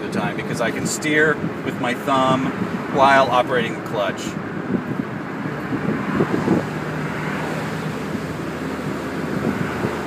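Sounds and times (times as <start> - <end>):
car engine hum: 0.0 - 10.0
tyre and wind noise: 0.0 - 10.0.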